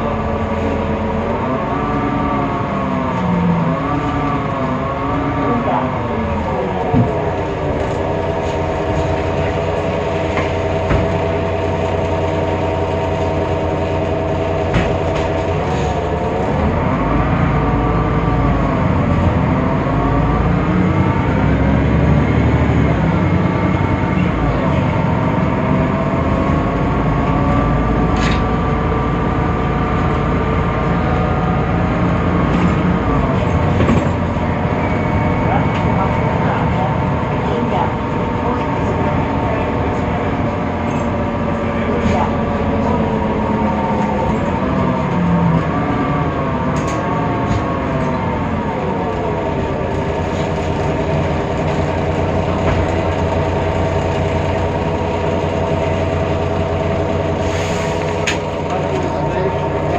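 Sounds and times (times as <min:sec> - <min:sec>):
bus drivetrain whining: 0:00.0 - 0:59.9.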